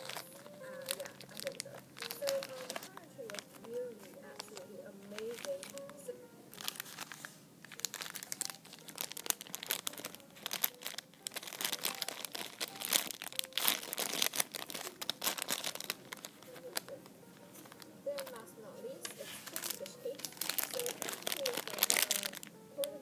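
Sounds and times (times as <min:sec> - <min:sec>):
plastic bags crinkling: 0:00.0 - 0:23.0.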